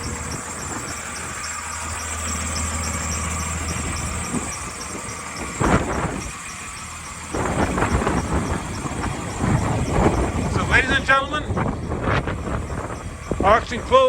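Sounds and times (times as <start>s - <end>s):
diesel engine idling: 0.0s - 14.0s
wind buffeting microphone: 0.0s - 14.0s.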